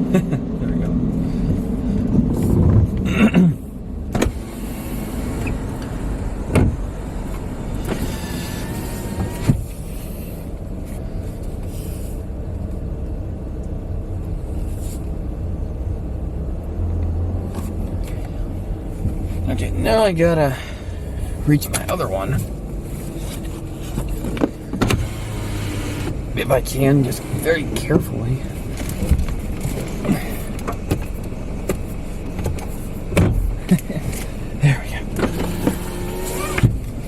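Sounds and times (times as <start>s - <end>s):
car cabin rumble: 0.0s - 37.0s.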